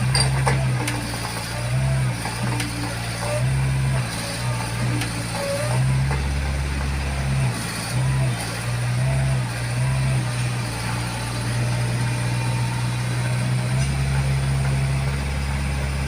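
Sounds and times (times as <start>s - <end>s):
backhoe diesel engine working: 0.0s - 16.0s.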